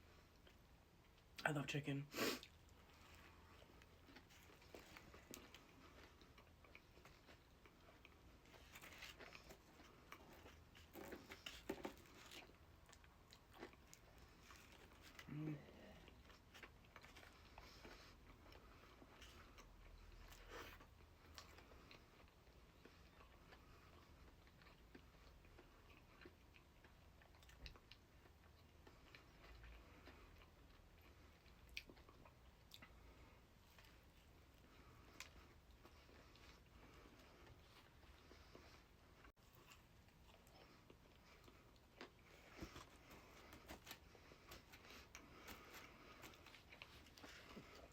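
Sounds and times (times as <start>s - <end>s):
person chewing food: 2.3s - 47.9s.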